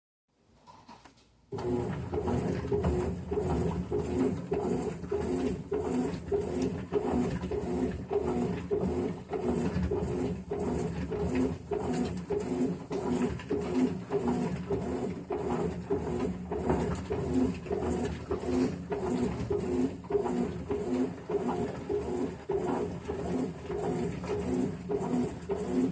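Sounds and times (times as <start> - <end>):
washing machine agitating: 1.5 - 25.9.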